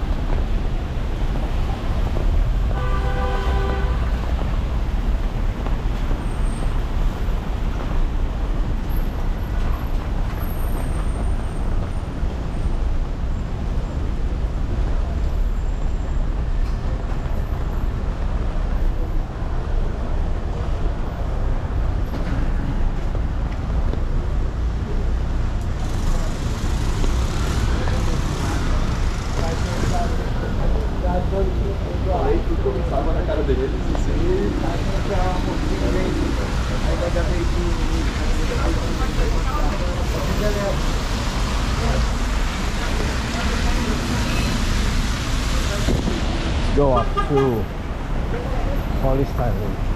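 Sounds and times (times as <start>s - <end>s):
city street traffic rumble: 0.0s - 49.9s.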